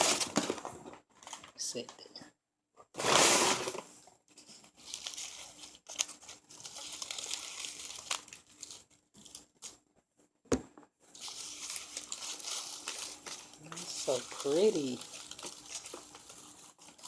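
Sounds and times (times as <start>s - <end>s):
packaging crinkling: 0.0s - 1.6s, 3.0s - 9.8s, 11.1s - 17.0s.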